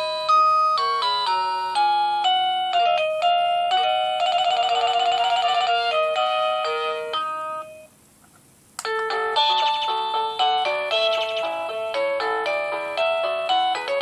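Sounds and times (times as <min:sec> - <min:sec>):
electronic door chime tune: 0:00.0 - 0:07.9, 0:09.0 - 0:14.0.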